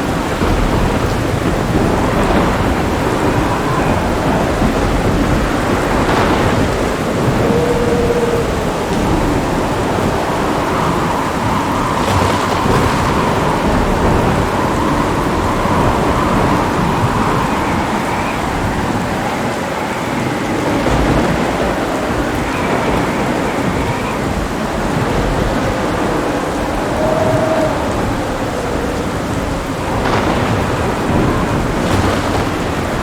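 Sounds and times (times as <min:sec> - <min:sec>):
heavy rain falling: 0:00.0 - 0:33.0
low rumbling thunder: 0:00.0 - 0:33.0.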